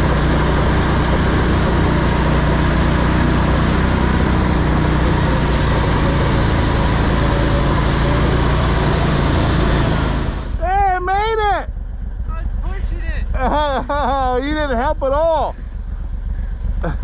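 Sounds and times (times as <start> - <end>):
road noise: 0.0 - 17.0
vehicle engine droning: 0.0 - 17.0.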